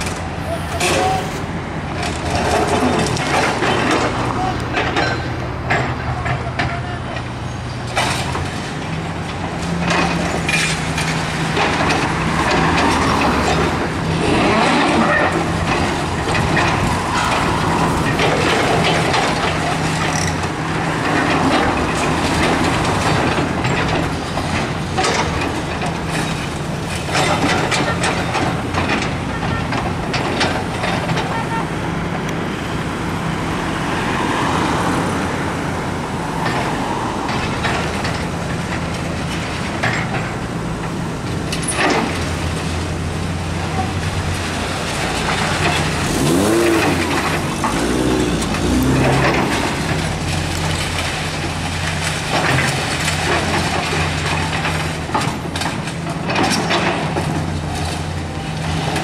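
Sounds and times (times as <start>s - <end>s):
excavator diesel engines running: 0.0s - 59.0s.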